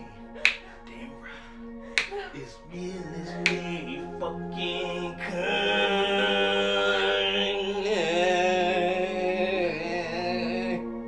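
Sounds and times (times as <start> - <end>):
held wordless vocal note: 0.0 - 11.0
steady low drone: 0.0 - 11.0.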